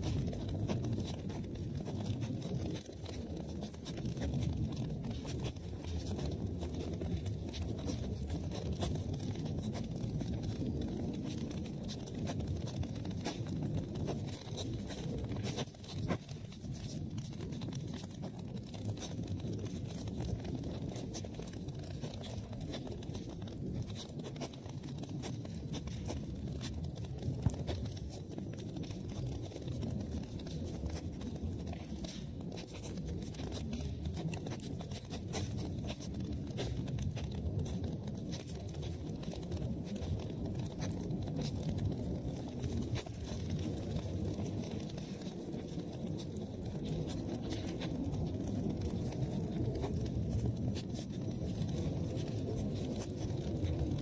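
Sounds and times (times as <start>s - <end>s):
fire crackles: 0.0s - 54.0s
rumble of flames: 0.0s - 54.0s.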